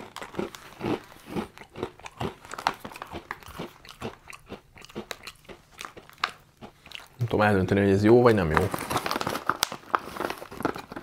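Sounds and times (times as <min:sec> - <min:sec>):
person chewing crunchy biscuit: 0:00.0 - 0:07.4, 0:08.7 - 0:11.0.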